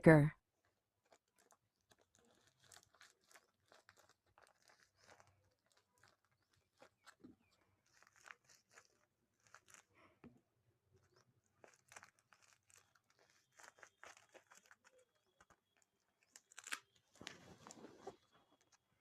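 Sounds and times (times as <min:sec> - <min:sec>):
plastic packaging crinkling: 0:01.0 - 0:10.1, 0:10.9 - 0:19.0.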